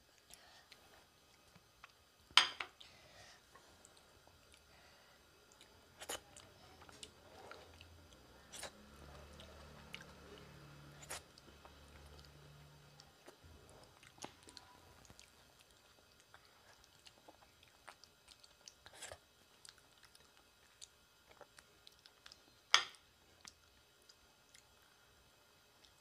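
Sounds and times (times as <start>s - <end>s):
quiet chewing and mouth sounds: 0.0s - 26.0s.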